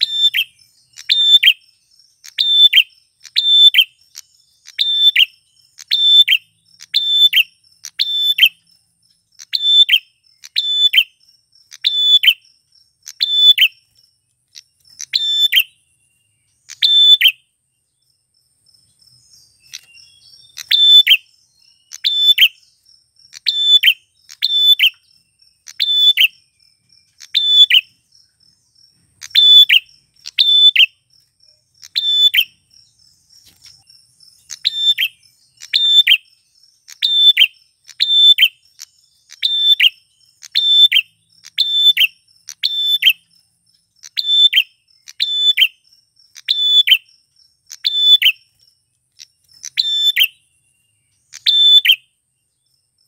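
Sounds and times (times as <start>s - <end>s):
bird chirping: 0.0s - 53.0s.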